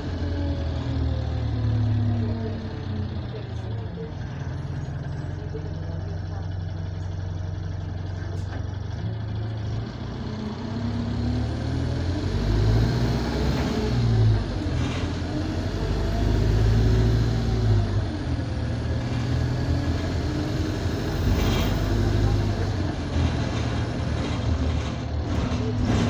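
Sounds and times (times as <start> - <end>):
diesel bus engine accelerating: 0.0 - 26.0.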